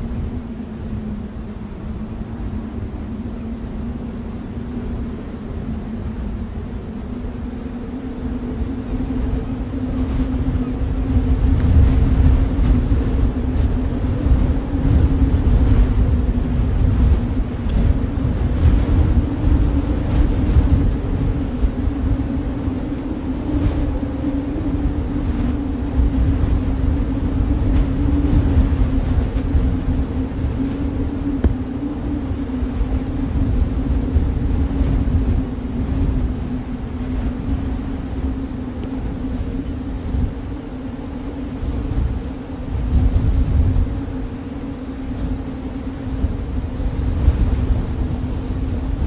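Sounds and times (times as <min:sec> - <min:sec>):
faint low howling: 0:00.0 - 0:49.0
snowstorm wind rumble: 0:00.0 - 0:49.0
steady low hum: 0:00.0 - 0:49.0.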